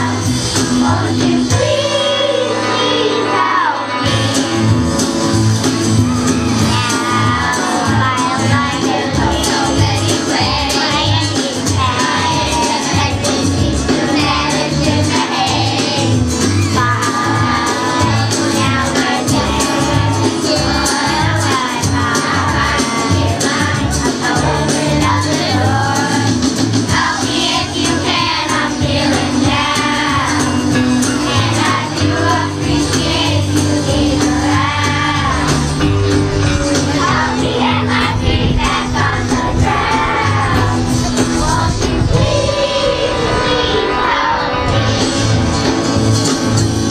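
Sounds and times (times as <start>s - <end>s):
children's choir singing: 0.0s - 46.6s
instrumental accompaniment with bass: 0.0s - 46.9s.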